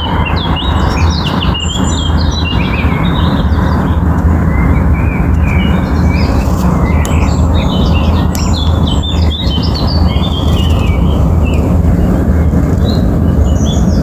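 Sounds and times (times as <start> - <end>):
small birds chirping and trilling: 0.0 - 14.0
steady low rumble: 0.0 - 14.0.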